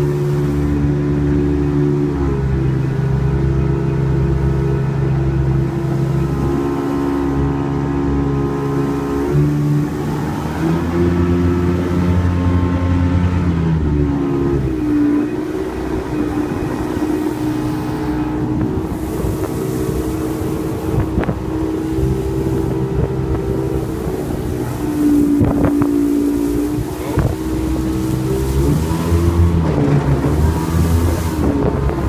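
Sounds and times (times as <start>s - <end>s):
motorboat engine running: 0.0s - 32.0s
wind buffeting microphone: 3.4s - 32.0s.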